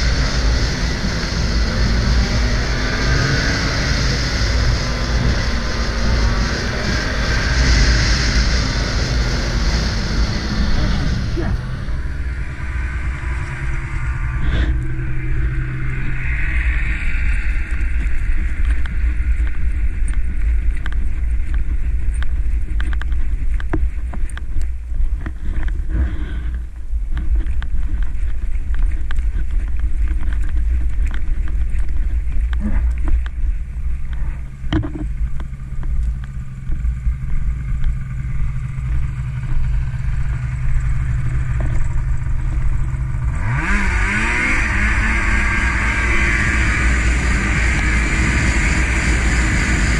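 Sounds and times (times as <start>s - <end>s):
snowmobile engine rumbling: 0.0s - 49.9s.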